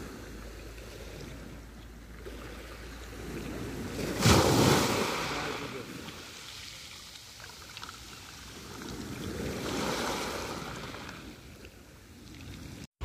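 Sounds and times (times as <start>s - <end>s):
sea waves washing onto shore: 0.0s - 12.9s.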